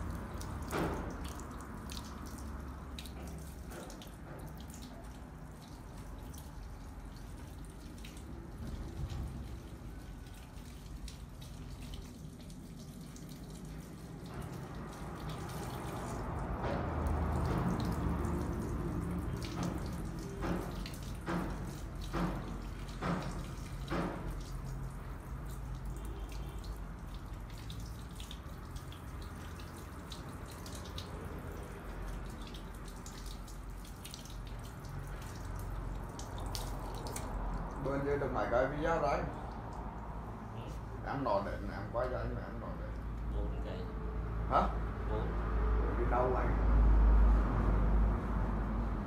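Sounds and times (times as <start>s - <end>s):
water trickling and dripping: 0.0s - 49.0s.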